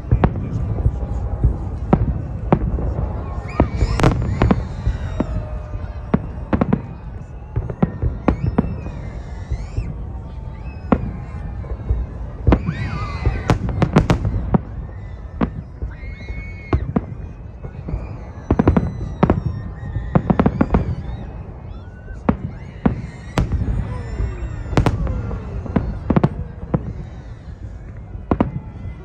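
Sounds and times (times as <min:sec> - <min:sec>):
fireworks sharp bangs: 0:00.0 - 0:29.0
low rumble of distant fireworks: 0:00.0 - 0:29.0.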